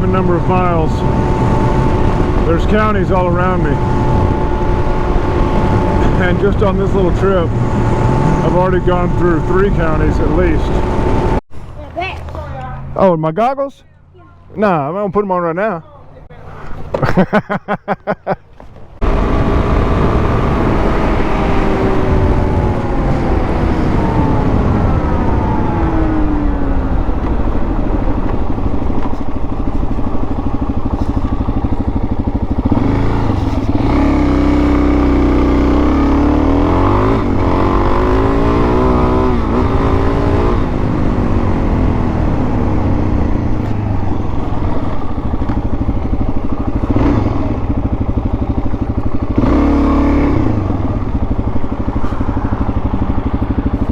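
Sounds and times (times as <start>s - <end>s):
wind noise: 0.0s - 11.4s, 18.9s - 53.9s
dirt bike engine: 0.0s - 13.1s, 13.9s - 53.9s.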